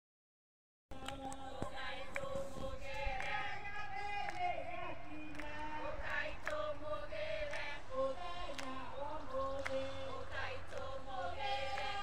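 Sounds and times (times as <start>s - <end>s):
sharp claps: 1.0s - 3.5s, 4.1s - 6.7s, 7.4s - 12.0s
group singing slow song: 1.0s - 12.0s.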